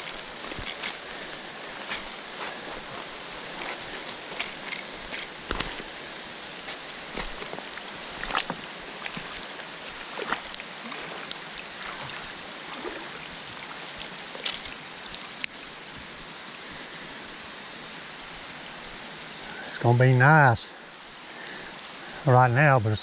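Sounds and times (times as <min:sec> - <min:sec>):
running water hiss: 0:00.0 - 0:23.0.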